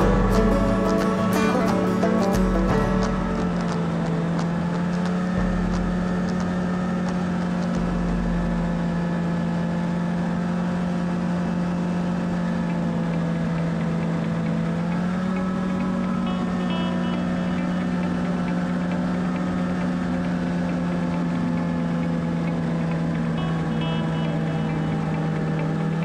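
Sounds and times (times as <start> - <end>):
snowmobile engine droning: 0.0 - 26.0.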